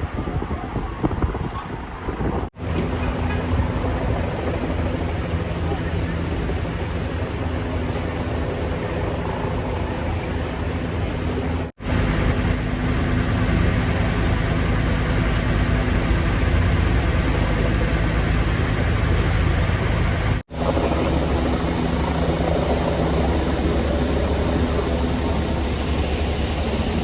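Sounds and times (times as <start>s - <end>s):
street noise: 0.0s - 27.0s
low engine rumble: 2.6s - 27.0s.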